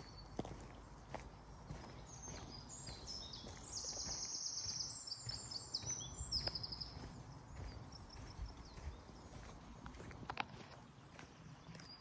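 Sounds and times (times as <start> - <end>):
footsteps on sandy path: 0.0 - 12.0
songbird singing trills: 0.0 - 12.0.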